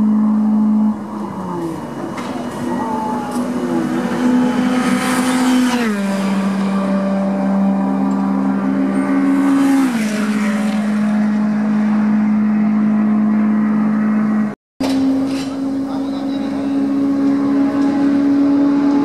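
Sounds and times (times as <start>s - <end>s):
race car engine upshifting: 0.0s - 19.0s.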